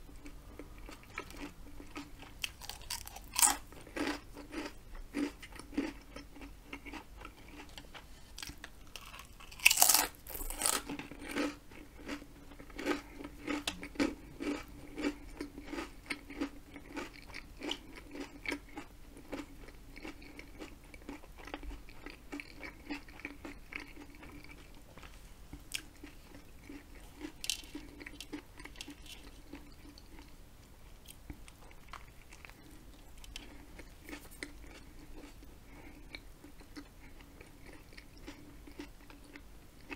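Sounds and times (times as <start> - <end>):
chewing and biting sandwich: 0.1 - 30.3, 31.2 - 39.9.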